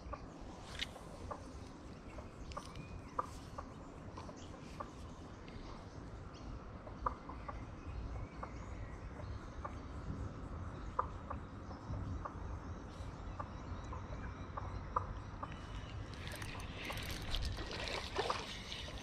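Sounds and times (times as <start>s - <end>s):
wind rumbling on microphone: 0.0s - 14.4s, 15.2s - 19.0s.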